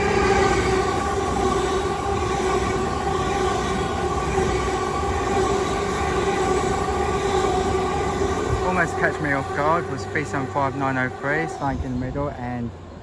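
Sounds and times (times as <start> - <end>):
electric train hum: 0.0 - 13.0
wheels rumbling on rails: 0.0 - 13.0.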